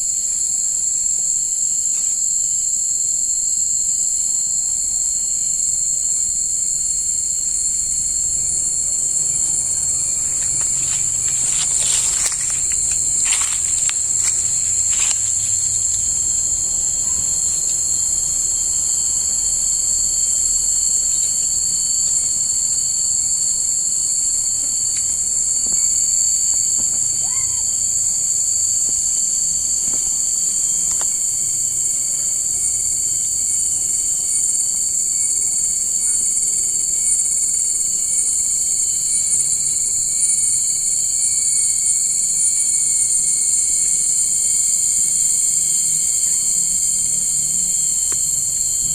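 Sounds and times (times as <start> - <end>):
insects buzzing trills: 0.0 - 48.9.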